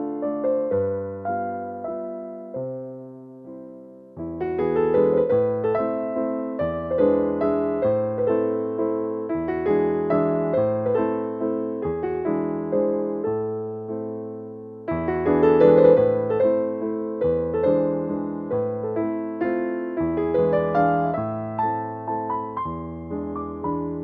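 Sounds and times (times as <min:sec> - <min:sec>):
keyboard melody: 0:00.0 - 0:24.0.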